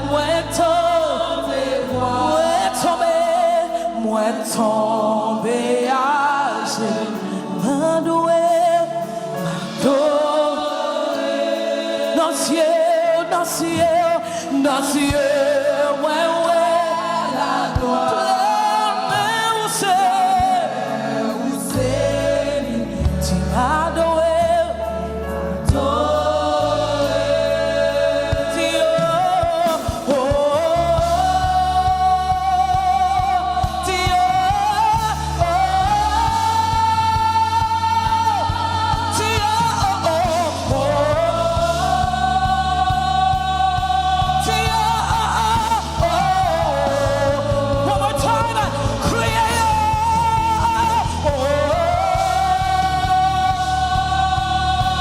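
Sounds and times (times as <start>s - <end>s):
keyboard and bass chords: 0.0s - 55.0s.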